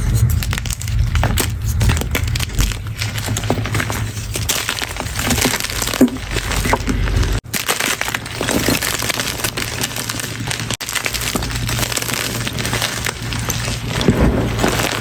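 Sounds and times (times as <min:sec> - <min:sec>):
chalk crunching and crumbling: 0:00.0 - 0:15.0.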